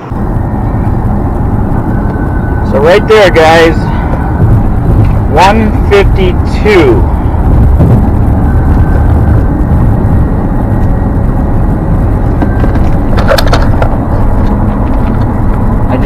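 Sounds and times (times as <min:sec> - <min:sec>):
wind rushing: 0:00.0 - 0:15.9
car engine at high speed: 0:00.0 - 0:16.0
road noise: 0:00.0 - 0:16.0.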